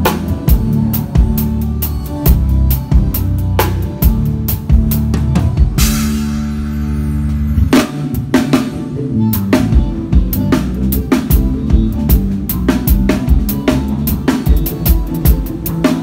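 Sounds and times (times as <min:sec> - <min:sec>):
bass and held chords: 0:00.0 - 0:16.0.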